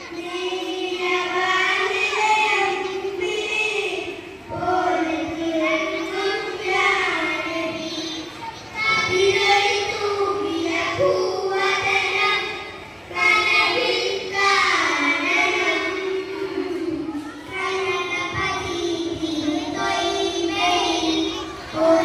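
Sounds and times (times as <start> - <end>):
child singing: 0.0 - 22.0.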